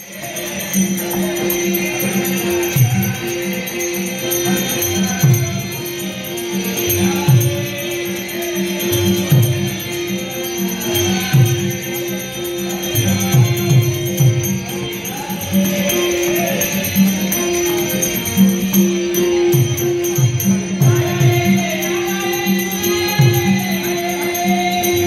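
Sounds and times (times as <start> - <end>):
harmonium holding notes: 0.0 - 25.0
man singing: 0.0 - 25.0.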